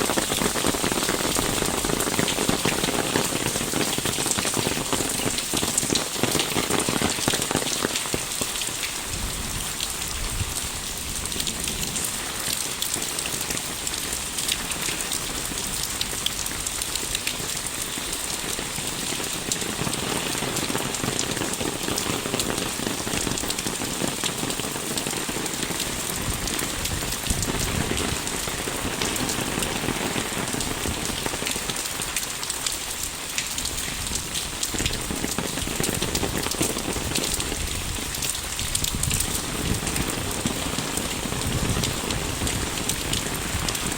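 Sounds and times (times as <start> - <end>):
steady rain with dense patter: 0.0 - 43.9.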